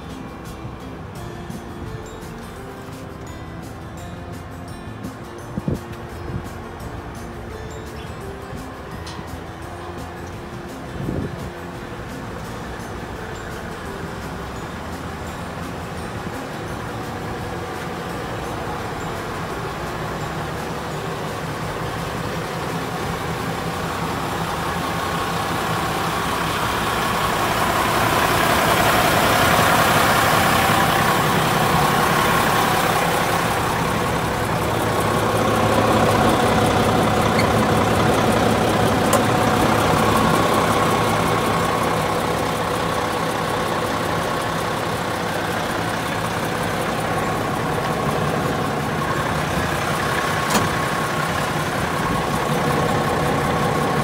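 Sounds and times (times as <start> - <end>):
truck diesel engine idling: 0.0 - 54.0.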